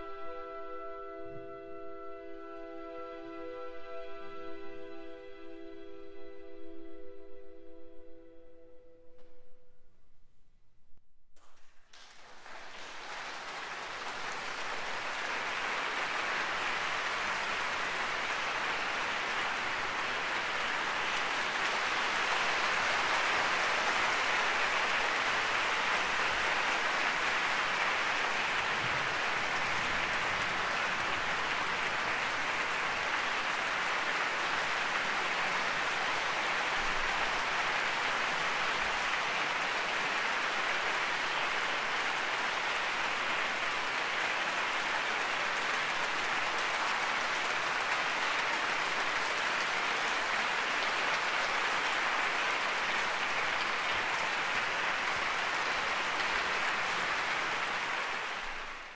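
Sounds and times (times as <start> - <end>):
audience applauding: 11.4 - 58.9.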